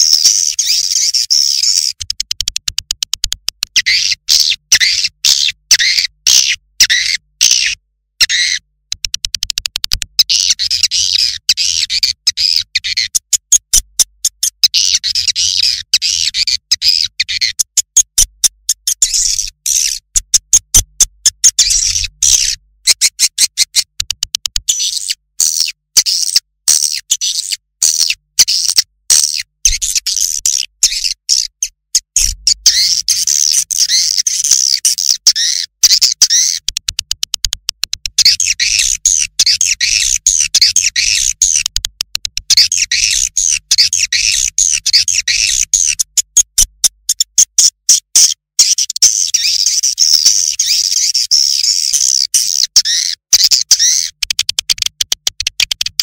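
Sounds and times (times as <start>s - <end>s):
recorded bird chirping and twittering: 0.0s - 37.1s, 38.1s - 41.8s, 42.4s - 56.0s.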